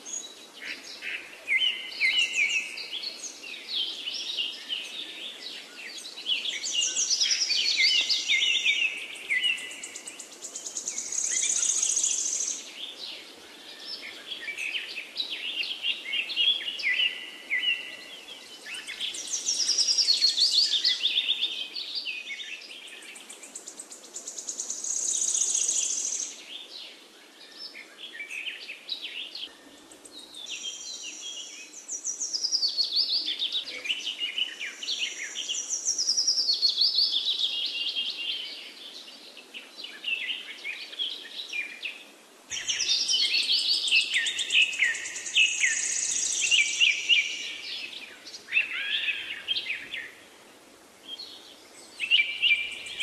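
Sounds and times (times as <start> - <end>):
birds chirping and trilling: 0.1 - 53.0.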